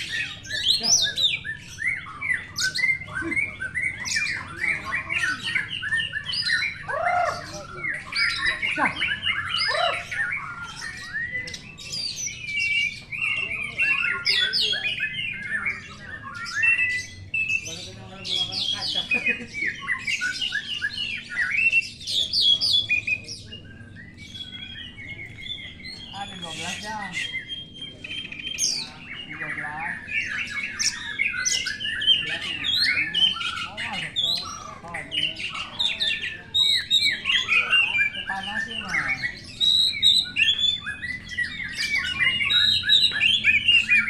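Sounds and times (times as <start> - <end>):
songbirds singing: 0.0 - 44.0.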